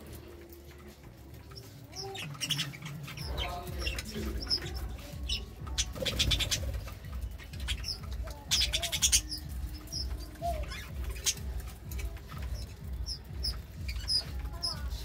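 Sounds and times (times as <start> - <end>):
budgerigars chirping: 1.5 - 15.0.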